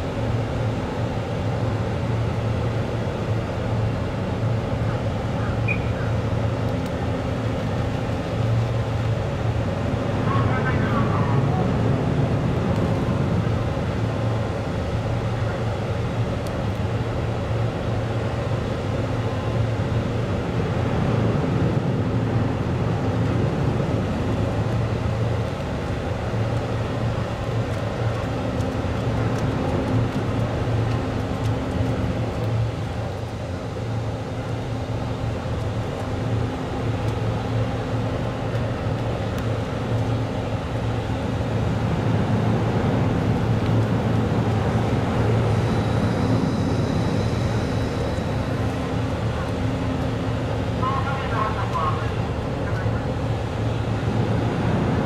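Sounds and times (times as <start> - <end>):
ferry machinery low drone: 0.0 - 55.0
higher steady hum: 0.0 - 55.0.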